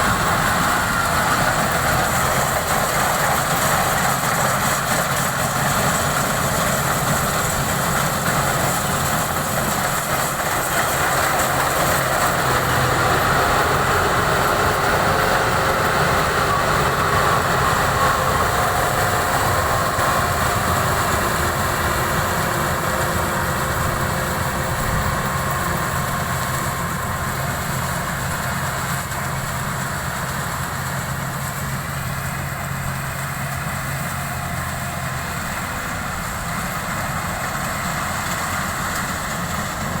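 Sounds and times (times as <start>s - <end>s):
combine harvester running: 0.0s - 40.0s.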